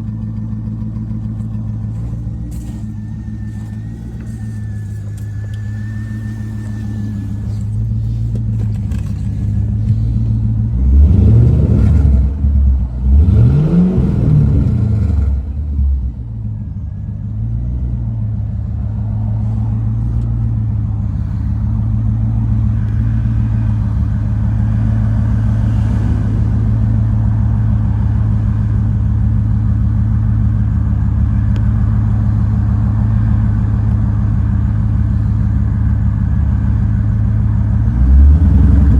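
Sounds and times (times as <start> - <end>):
engine revving: 0.0 - 16.4, 17.4 - 30.5, 31.3 - 38.9
car engine idling rough: 0.0 - 38.9.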